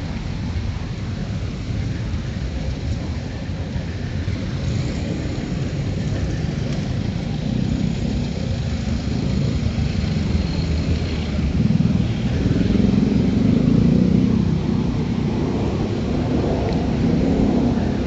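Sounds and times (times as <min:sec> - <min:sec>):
road traffic on wet street: 0:00.0 - 0:18.0.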